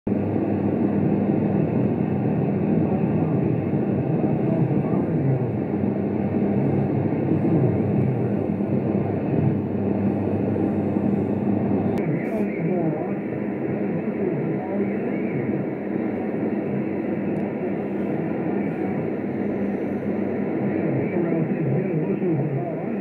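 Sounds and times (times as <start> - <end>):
radio static: 0.1 - 23.0.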